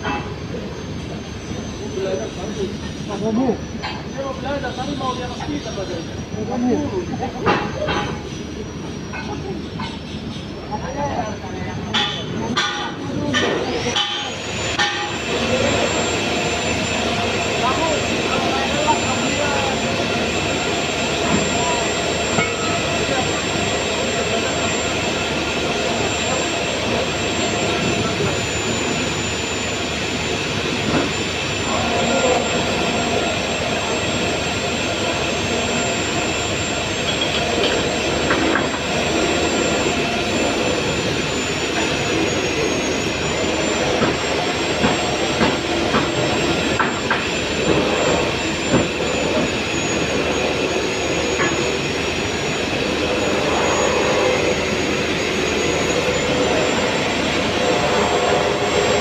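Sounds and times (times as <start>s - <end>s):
high wavering whine: 0.0s - 59.0s
machinery running loudly: 0.0s - 59.0s.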